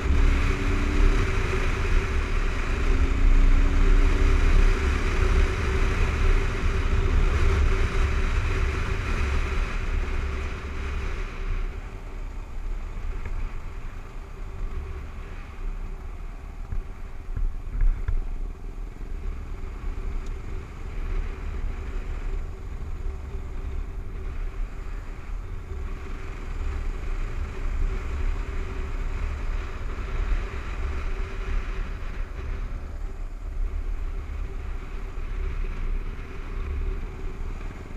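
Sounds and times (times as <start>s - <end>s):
motorcycle engine running: 0.0s - 37.9s
wind rumble: 0.0s - 37.9s.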